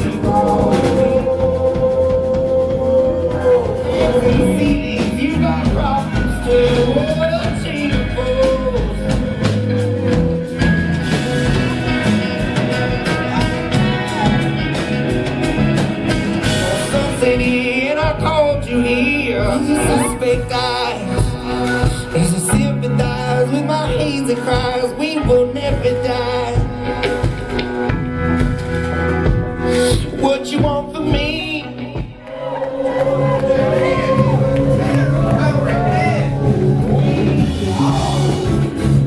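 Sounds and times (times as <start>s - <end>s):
person singing: 0.0s - 15.0s, 16.3s - 27.4s, 29.6s - 39.0s
rock band music: 0.0s - 39.0s.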